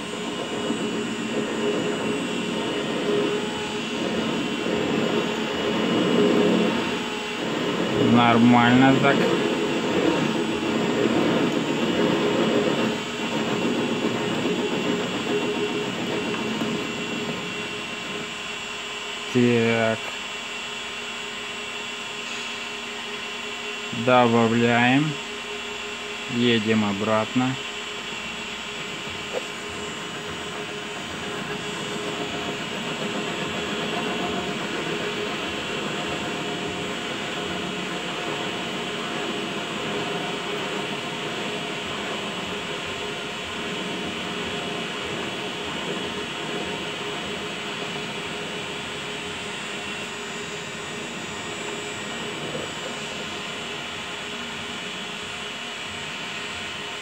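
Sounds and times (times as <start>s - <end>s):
lathe turning steel: 0.0s - 57.0s.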